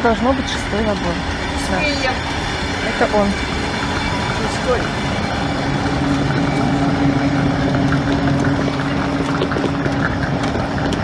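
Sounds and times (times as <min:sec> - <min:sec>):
train machinery hum: 0:00.0 - 0:11.0
train rumble: 0:00.0 - 0:11.0.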